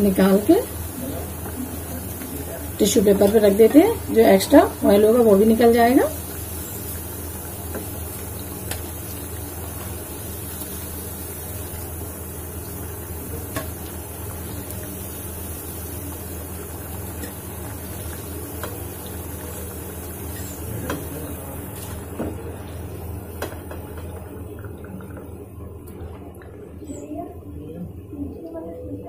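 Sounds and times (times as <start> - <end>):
hot oil sizzling in a pan: 0.0 - 24.9
low steady hum: 0.0 - 29.0.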